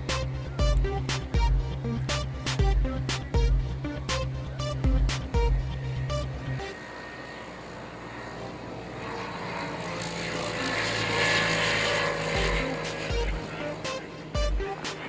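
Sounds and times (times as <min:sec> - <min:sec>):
light aircraft passing by: 0:00.0 - 0:15.0.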